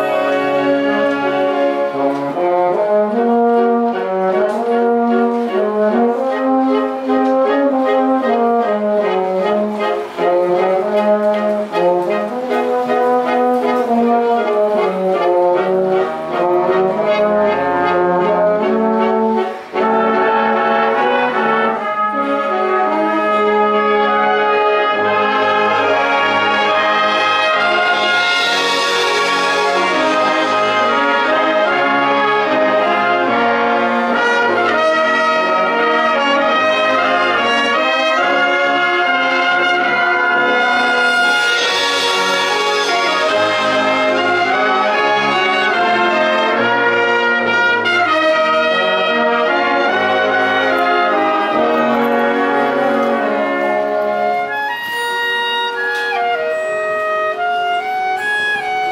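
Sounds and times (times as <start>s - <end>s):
trumpets and trombones: 0.0s - 58.9s
wind band playing: 0.0s - 58.9s.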